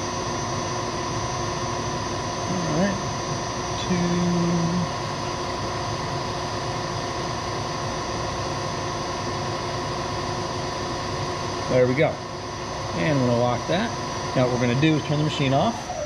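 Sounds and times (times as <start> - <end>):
milling machine humming: 0.0 - 16.0.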